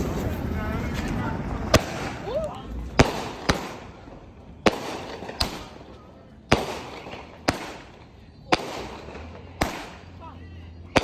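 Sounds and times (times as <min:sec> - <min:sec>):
fireworks bangs with echo: 0:01.4 - 0:11.0.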